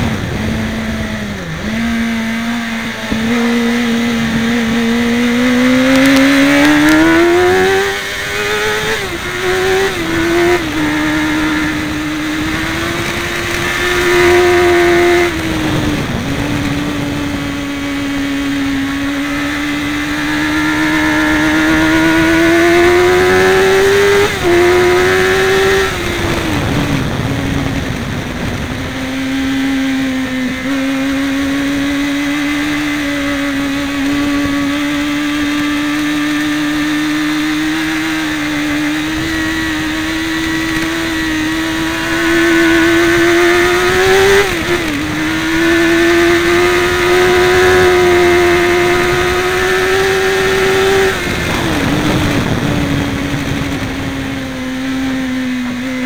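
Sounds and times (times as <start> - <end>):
motorcycle engine under load: 0.0 - 56.0
wind rush: 0.0 - 56.0.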